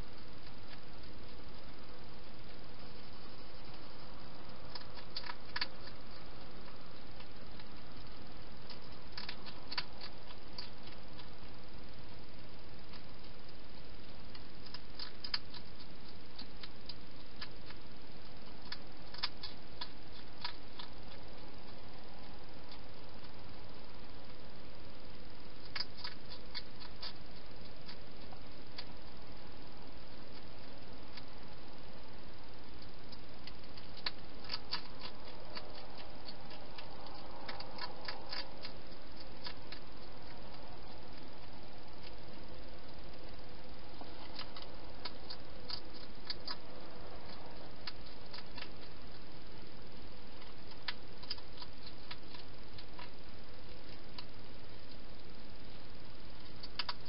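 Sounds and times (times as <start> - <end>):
hedgehog eating crunches: 0.0 - 57.0
steady hiss: 0.0 - 57.0.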